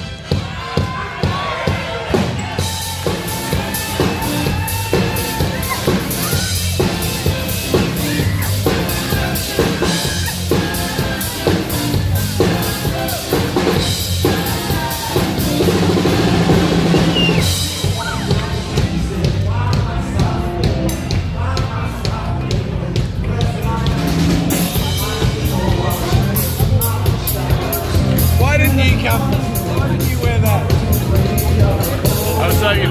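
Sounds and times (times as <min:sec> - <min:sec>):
drum kit beat: 0:00.0 - 0:32.9
live band playing: 0:00.0 - 0:32.9.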